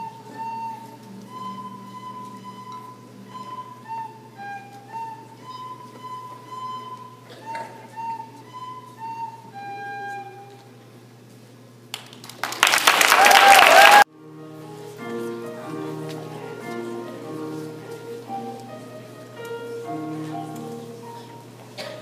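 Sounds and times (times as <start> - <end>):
recorder playing melody: 0.0 - 10.8, 14.1 - 21.6.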